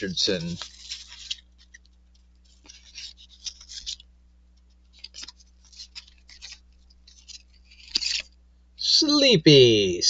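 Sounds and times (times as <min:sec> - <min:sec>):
cards flipped by hand: 0:00.2 - 0:08.4.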